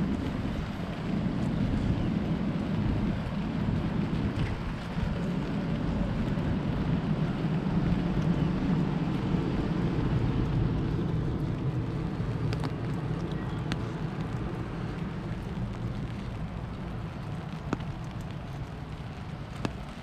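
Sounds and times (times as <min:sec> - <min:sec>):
low rumble: 0:00.0 - 0:20.0
steady rain: 0:00.0 - 0:20.0.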